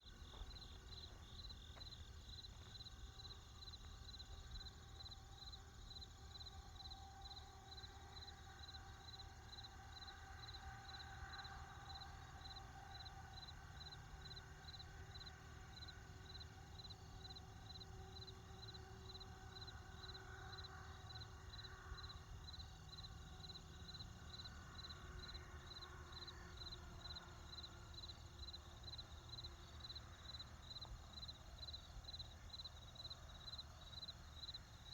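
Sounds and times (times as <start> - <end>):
faint insect chirping: 0.0 - 34.9.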